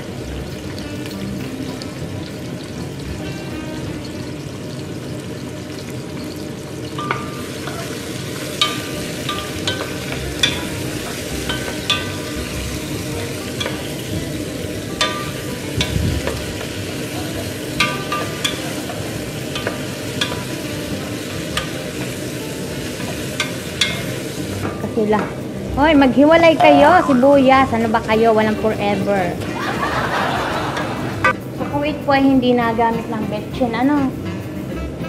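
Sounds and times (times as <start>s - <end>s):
onions sizzling in oil: 0.0s - 34.9s.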